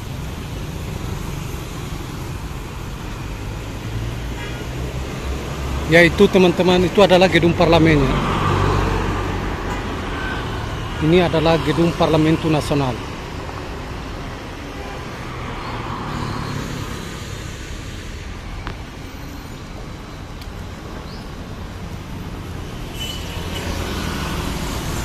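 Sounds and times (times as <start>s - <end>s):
car and motorbike engines passing: 0.0s - 19.0s, 19.6s - 25.0s.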